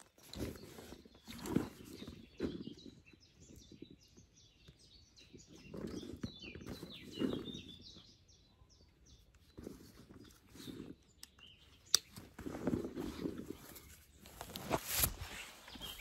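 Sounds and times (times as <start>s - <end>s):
bag rustling and bumping: 0.0s - 4.2s, 4.8s - 8.2s, 9.1s - 16.0s
small birds chirping: 0.0s - 16.0s.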